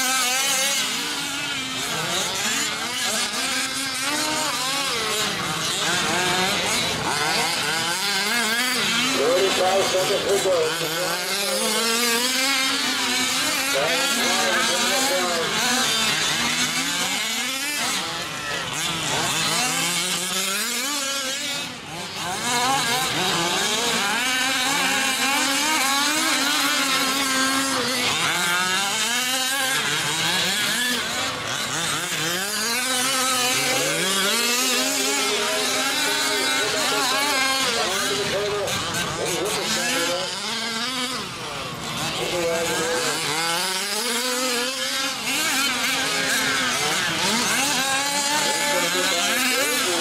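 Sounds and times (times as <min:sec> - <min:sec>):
rc truck engines revving: 0:00.0 - 0:50.0.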